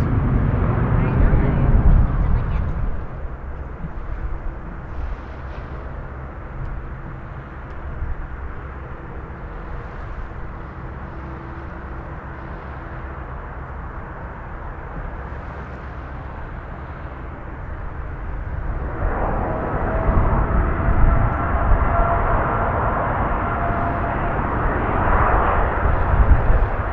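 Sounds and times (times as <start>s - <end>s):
jet engines rumbling: 0.0s - 26.9s
whine of engine tones: 0.0s - 26.9s.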